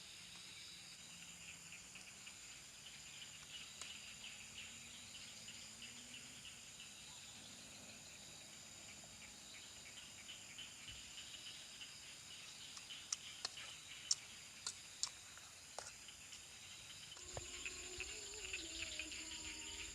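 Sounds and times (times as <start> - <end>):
high insect trills: 0.0 - 19.9
rapid insect chirps: 0.0 - 19.9.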